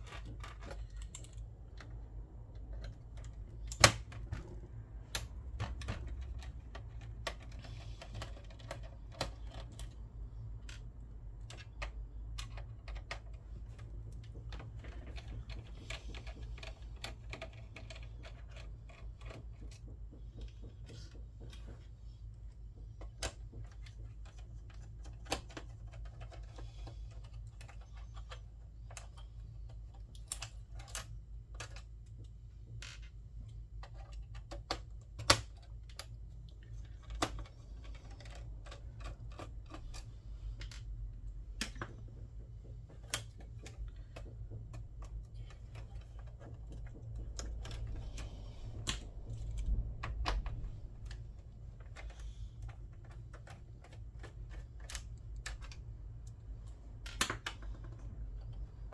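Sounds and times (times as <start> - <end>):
small parts clicking and tapping: 0.0 - 58.9.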